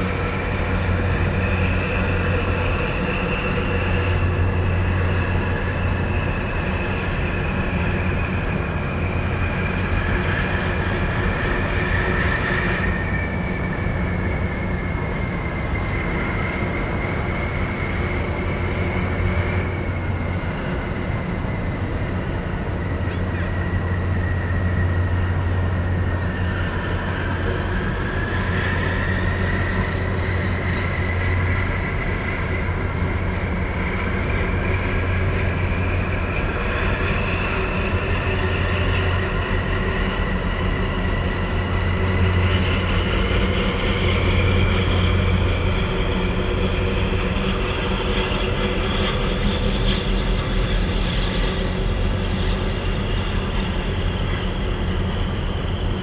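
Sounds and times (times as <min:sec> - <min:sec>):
ship diesel engine drone: 0:00.0 - 0:56.0
high whine rising in pitch: 0:03.6 - 0:56.0.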